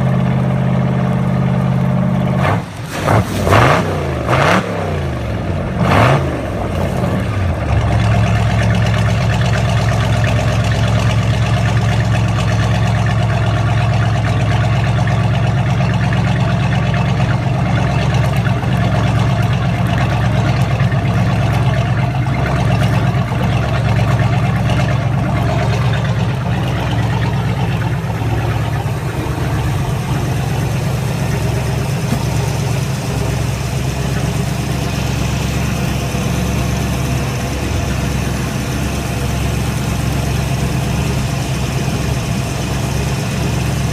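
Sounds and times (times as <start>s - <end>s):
boat engine idling: 0.0s - 43.9s
cooling water splashing: 2.5s - 43.9s.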